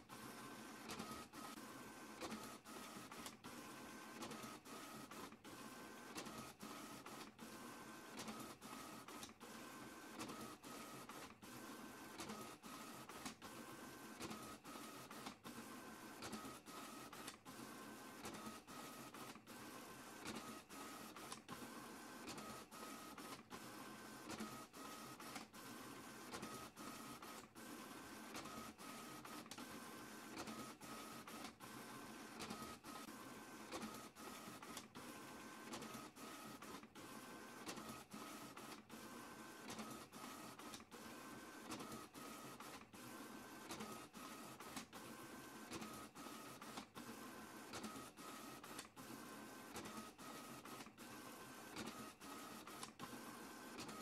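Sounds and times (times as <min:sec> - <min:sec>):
printer running: 0:00.0 - 0:54.0
printer whine: 0:00.0 - 0:54.0.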